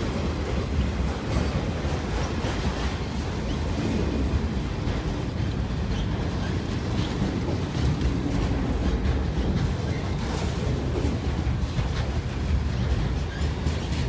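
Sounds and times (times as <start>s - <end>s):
freight car wheels rumbling on rails: 0.0s - 14.0s.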